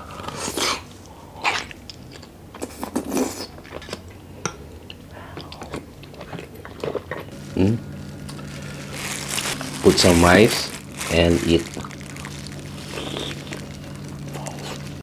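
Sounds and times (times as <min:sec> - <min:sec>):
wet biting and chewing: 0:00.1 - 0:09.9, 0:11.0 - 0:15.0.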